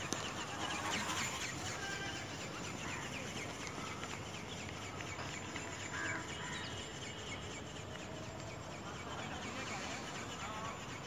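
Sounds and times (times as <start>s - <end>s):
birds calling: 0.0s - 11.0s
outdoor background noise: 0.0s - 11.0s.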